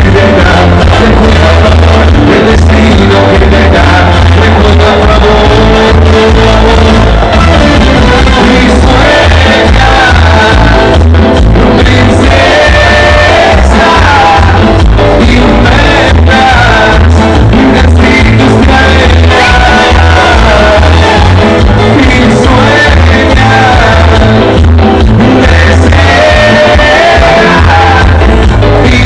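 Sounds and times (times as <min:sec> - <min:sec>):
party music with heavy bass: 0:00.0 - 0:29.0
person singing: 0:00.0 - 0:29.0.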